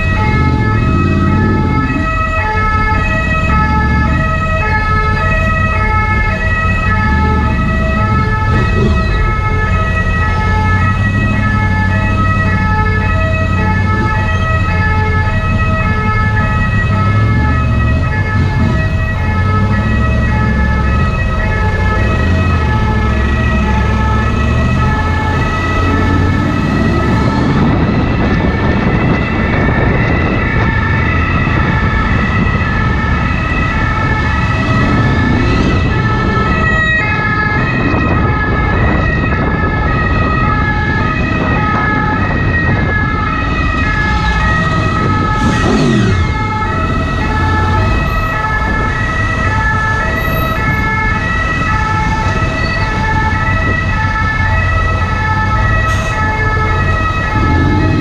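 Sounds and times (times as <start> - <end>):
traffic rumble in tunnel: 0.0 - 58.0
two-tone ambulance siren: 0.0 - 58.0.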